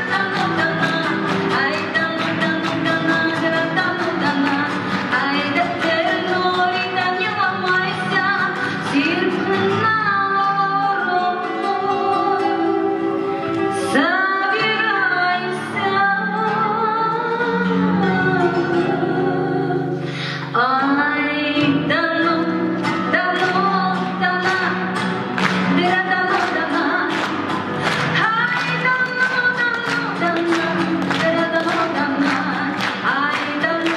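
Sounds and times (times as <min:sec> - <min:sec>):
plucked guitar: 0:00.0 - 0:33.9
woman singing: 0:00.0 - 0:33.9.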